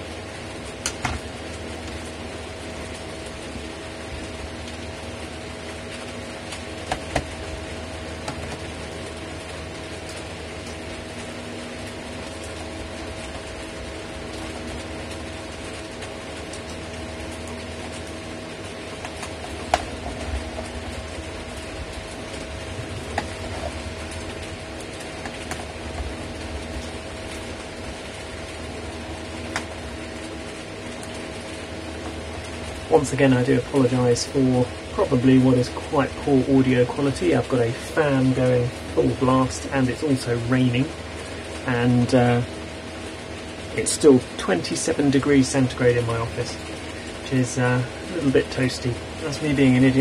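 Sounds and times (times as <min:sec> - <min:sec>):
electric fan humming: 0:00.0 - 0:50.0.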